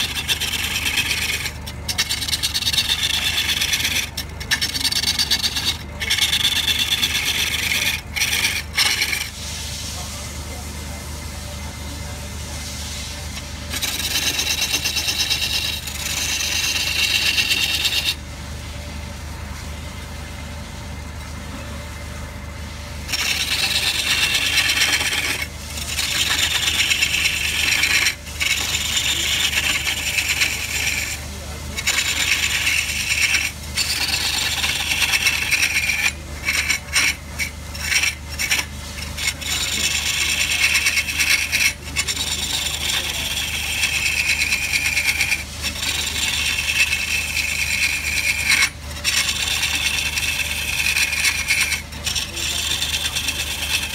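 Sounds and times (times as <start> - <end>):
wood lathe motor hum: 0.0 - 9.4, 13.3 - 18.2, 23.0 - 53.9
tool scraping spinning wood: 0.0 - 10.1, 13.0 - 18.2, 23.0 - 53.9.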